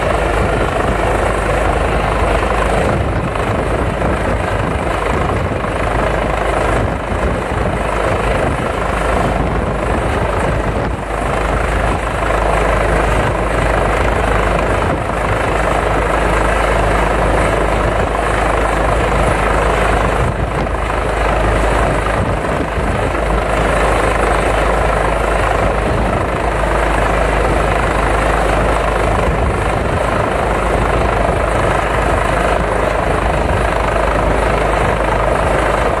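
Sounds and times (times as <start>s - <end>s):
helicopter hovering overhead: 0.0s - 36.0s.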